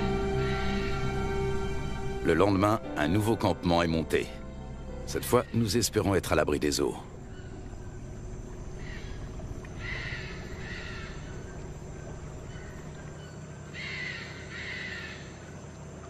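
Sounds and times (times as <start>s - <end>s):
steady low background: 0.0s - 14.6s.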